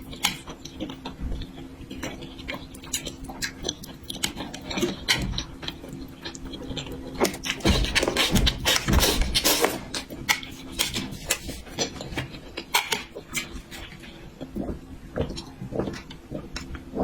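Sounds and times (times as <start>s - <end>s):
chewing with wet mouth clicks: 0.0s - 17.0s.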